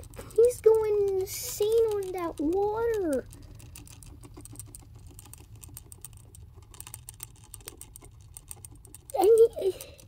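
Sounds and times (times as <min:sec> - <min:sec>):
hamster licking water bottle tube: 0:00.0 - 0:10.0.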